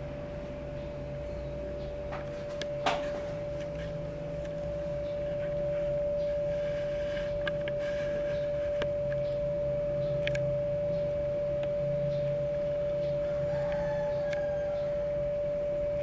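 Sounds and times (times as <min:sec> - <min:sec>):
ceiling fan motor hum: 0:00.0 - 0:16.0
low drone: 0:00.0 - 0:16.0.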